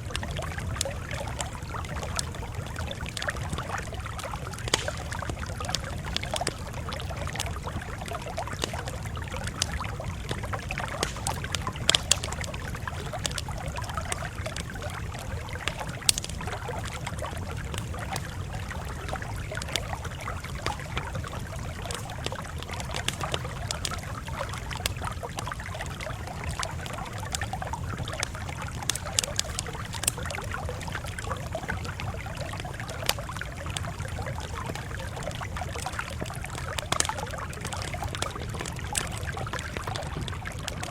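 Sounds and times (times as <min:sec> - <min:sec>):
campfire crackling: 0:00.0 - 0:40.9
low rumble of burning: 0:00.0 - 0:40.9.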